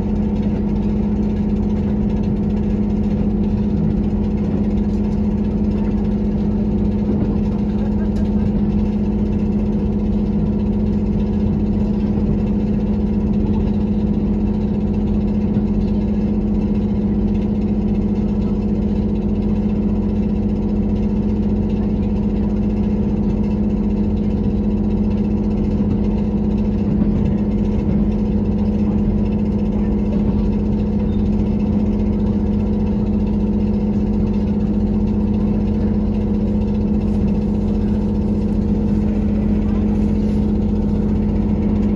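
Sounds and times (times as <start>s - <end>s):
diesel engine hum: 0.0s - 41.9s
engine rattling: 0.0s - 41.9s.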